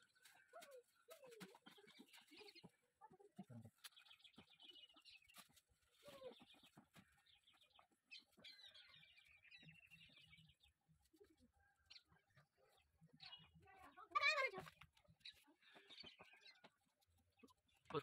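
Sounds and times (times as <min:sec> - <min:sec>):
birds chirping in trills: 0:00.0 - 0:18.0.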